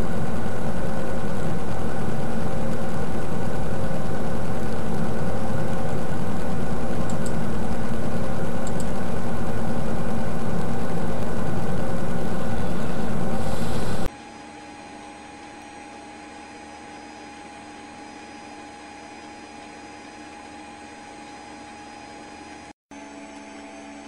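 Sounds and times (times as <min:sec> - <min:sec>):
loud machine drone: 0:00.0 - 0:24.0.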